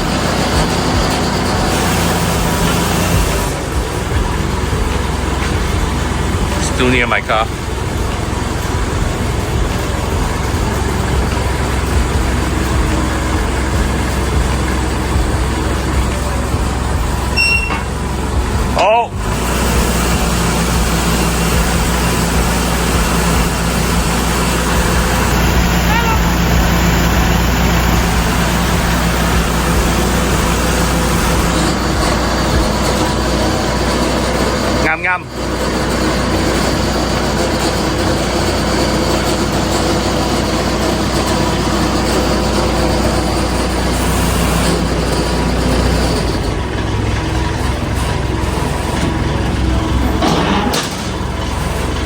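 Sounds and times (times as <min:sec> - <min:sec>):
truck engine running: 0:00.0 - 0:52.0.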